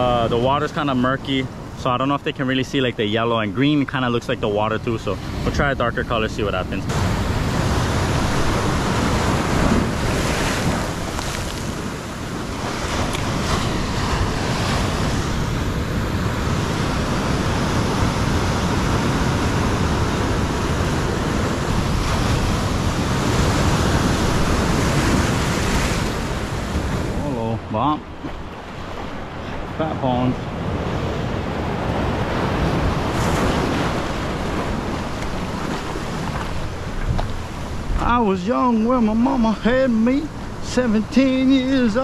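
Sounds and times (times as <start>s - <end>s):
surf washing over rocks: 0.0s - 42.0s
wind buffeting microphone: 2.5s - 42.0s.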